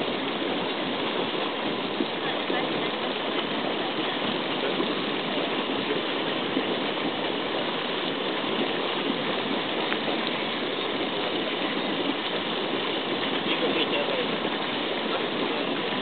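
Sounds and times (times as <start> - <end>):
geyser water gushing: 0.0 - 16.0.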